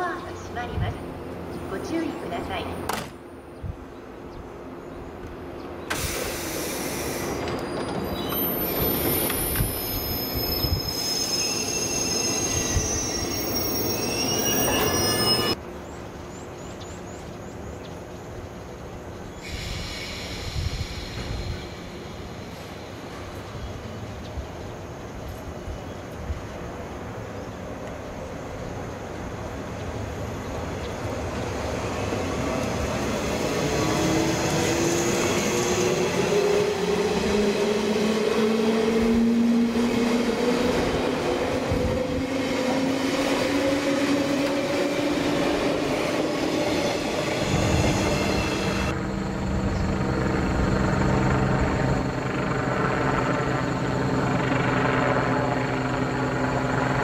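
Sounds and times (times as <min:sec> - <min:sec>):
low train hum: 0:00.0 - 0:57.0
wheels rumbling on rail: 0:04.0 - 0:57.0.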